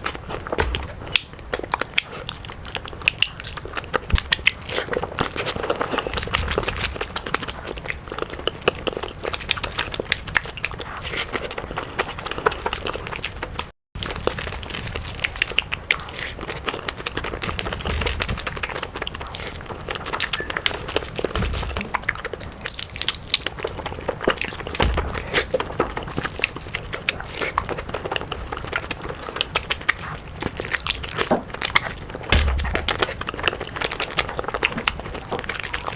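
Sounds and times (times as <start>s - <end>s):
chewing and crunching food: 0.0s - 35.9s.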